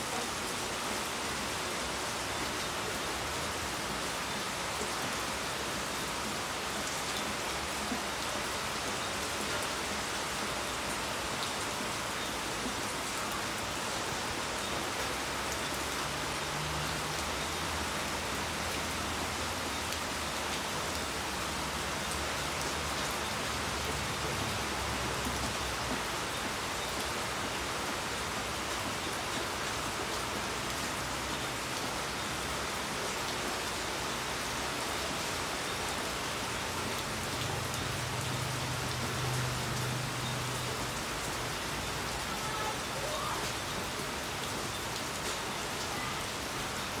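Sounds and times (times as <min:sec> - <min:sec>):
rain on paving and roofs: 0:00.0 - 0:47.0.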